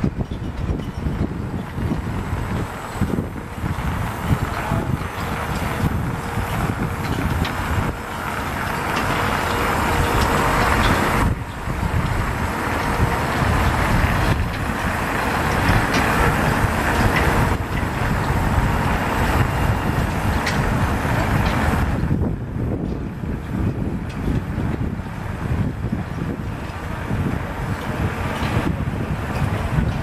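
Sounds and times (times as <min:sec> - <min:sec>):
ice resurfacer engine rumble: 0:00.0 - 0:30.0
outdoor city noise: 0:00.0 - 0:30.0.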